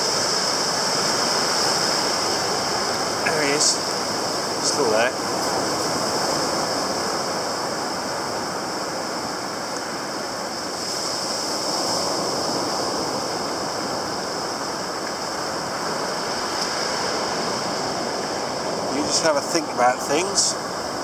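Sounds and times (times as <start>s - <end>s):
shallow surf washing over sand: 0.0s - 21.0s.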